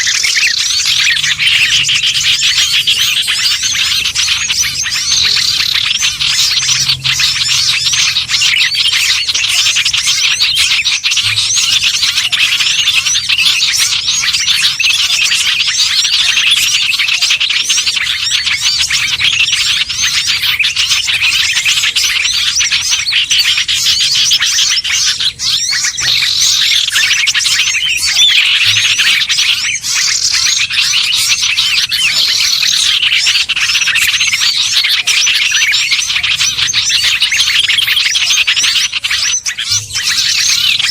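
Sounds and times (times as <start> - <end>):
songbirds chirping chorus: 0.0 - 40.9.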